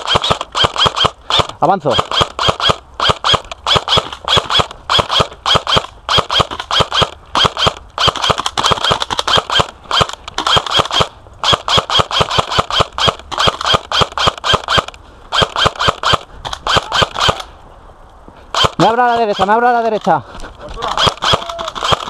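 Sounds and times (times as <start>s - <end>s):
airsoft rifle firing bursts: 0.0s - 17.5s, 18.5s - 20.0s, 20.8s - 22.0s.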